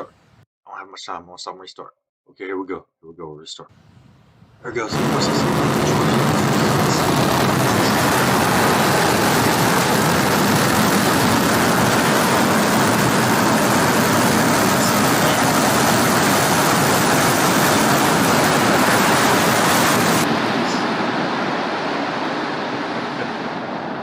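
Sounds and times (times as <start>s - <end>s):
rocket engines roaring: 4.7s - 24.0s.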